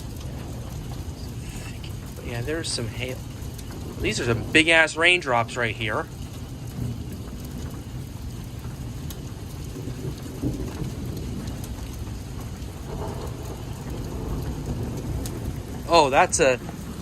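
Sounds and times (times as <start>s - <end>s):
rain and hail falling: 0.0s - 17.0s.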